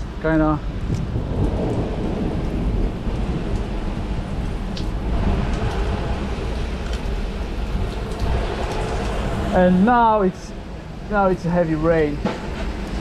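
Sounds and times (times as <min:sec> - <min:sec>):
heavy rain pouring: 0:00.0 - 0:13.0
low rumble: 0:00.0 - 0:13.0.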